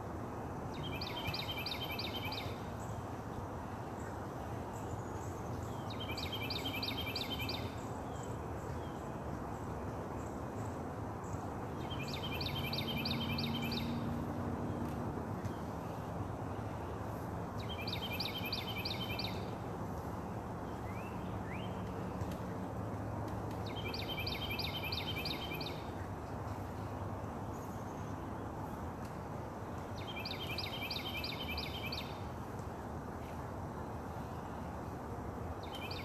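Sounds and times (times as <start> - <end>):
outdoor background hiss: 0.0 - 36.0
songbird singing: 0.7 - 32.6, 35.6 - 36.0.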